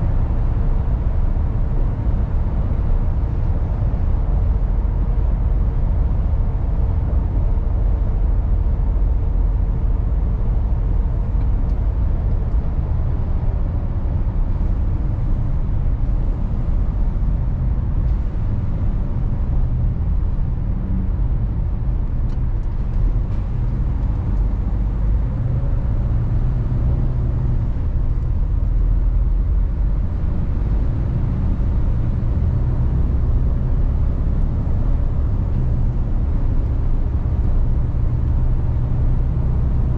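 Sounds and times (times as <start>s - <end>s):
truck diesel engine rumble: 0.0s - 39.9s.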